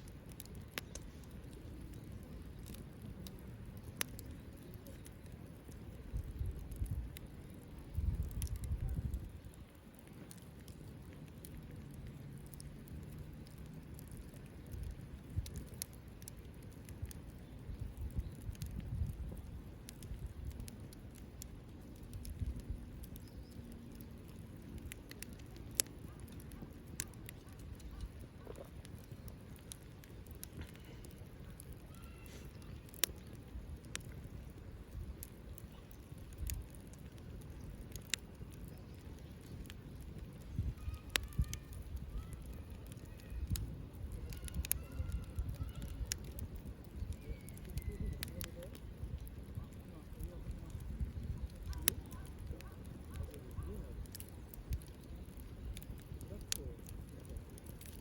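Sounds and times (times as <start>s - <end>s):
low rumble of flame: 0.0s - 58.0s
wood fire crackling and popping: 0.0s - 58.0s.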